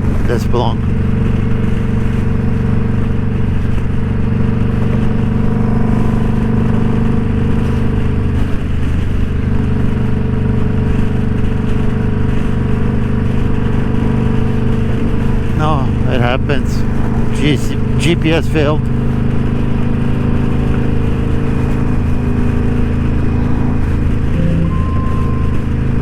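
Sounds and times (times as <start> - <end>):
wind and road noise: 0.0 - 24.4
motorcycle engine running: 0.0 - 26.0.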